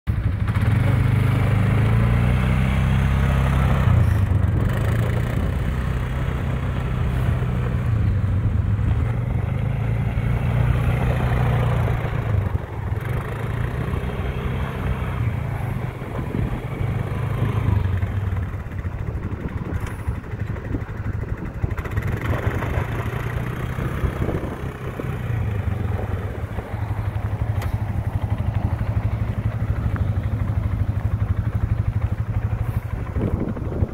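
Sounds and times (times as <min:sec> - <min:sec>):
atv engine running: 0:00.1 - 0:33.9.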